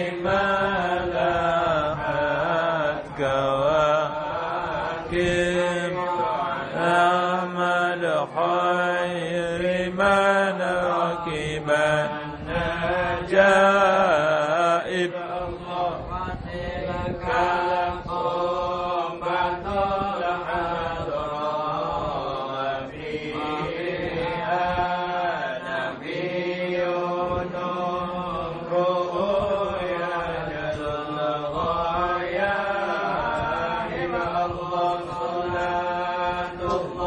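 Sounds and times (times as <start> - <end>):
men chanting together: 0.0 - 37.0.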